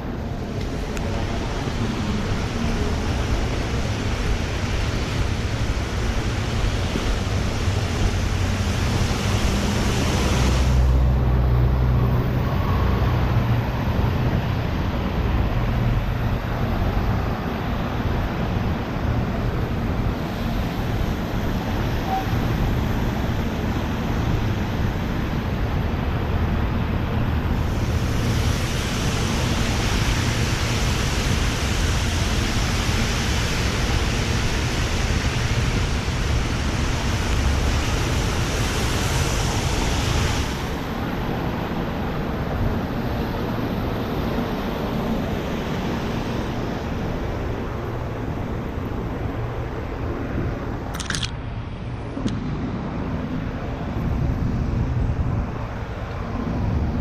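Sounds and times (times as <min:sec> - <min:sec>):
rushing wind: 0:00.0 - 0:57.0.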